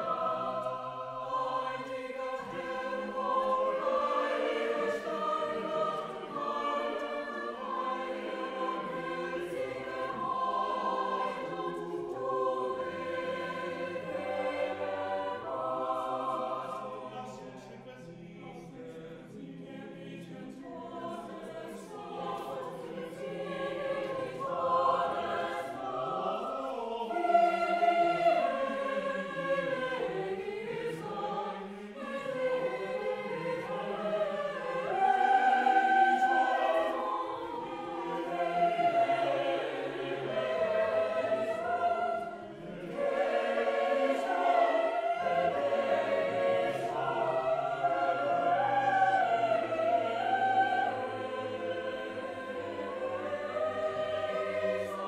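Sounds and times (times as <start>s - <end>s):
choir singing long notes: 0.0s - 55.0s.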